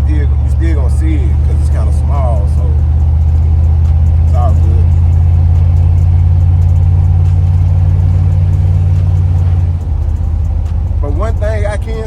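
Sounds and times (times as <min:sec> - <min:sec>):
exhaust droning at low pitch: 0:00.0 - 0:12.0.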